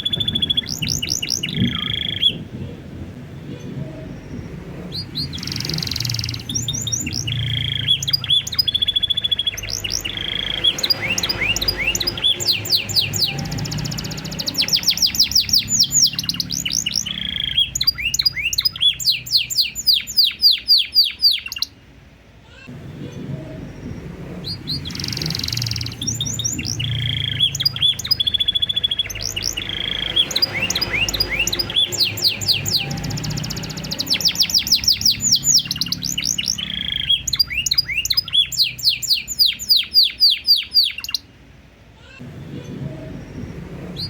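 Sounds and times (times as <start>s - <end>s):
canary singing trills: 0.0s - 21.9s, 22.5s - 41.4s.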